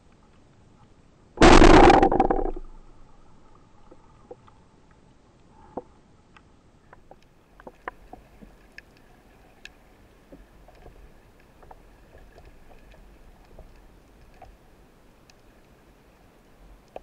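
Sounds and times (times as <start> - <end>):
underwater clicks and crackles: 0.0 - 17.0.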